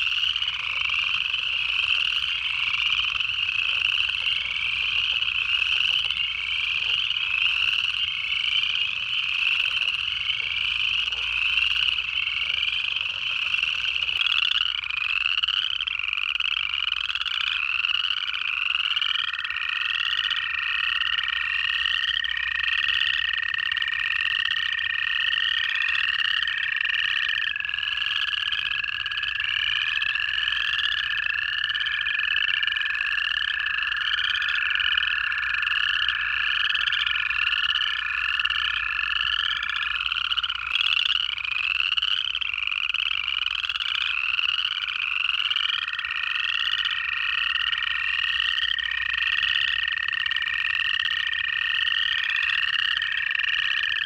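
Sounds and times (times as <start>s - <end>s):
chorus frogs trilling: 0.0s - 54.0s
toad long steady trill: 0.0s - 54.0s.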